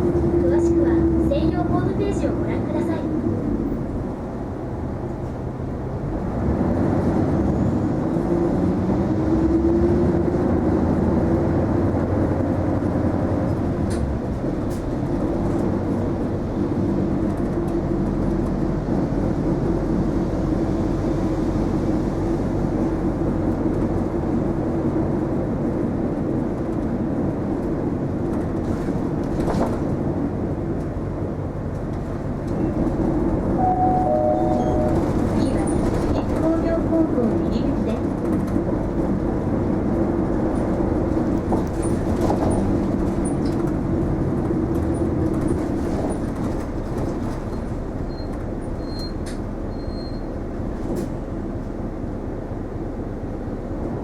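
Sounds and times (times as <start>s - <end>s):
bus engine accelerating: 0.0s - 54.0s.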